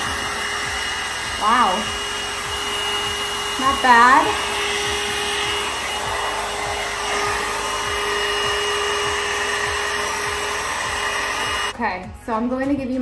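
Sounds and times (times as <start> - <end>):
hair dryer running: 0.0 - 11.8.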